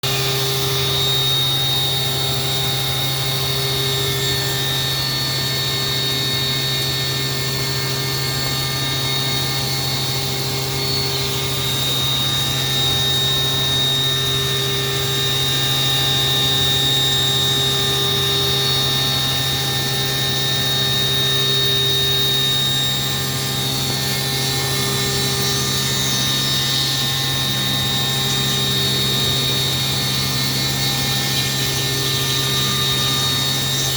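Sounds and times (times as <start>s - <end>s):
milling machine spindle whine: 0.0s - 33.9s.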